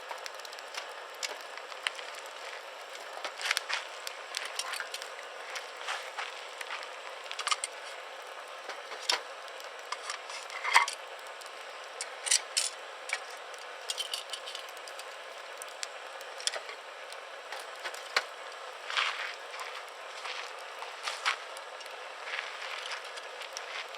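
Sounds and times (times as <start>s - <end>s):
campfire crackling and popping: 0.0s - 23.9s.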